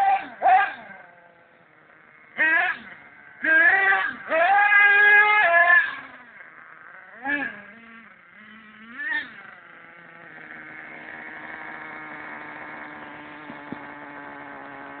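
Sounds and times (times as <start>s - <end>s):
nitro engine revving and idling: 0.0s - 15.0s.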